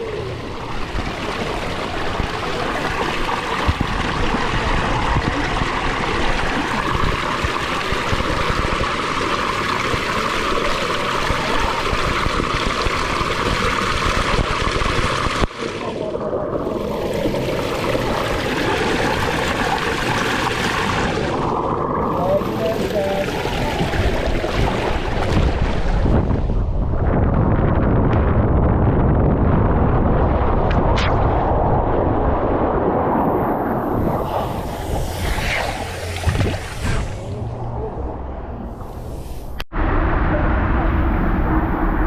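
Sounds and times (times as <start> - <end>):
water rushing down a slide: 0.0 - 28.0, 28.7 - 37.5.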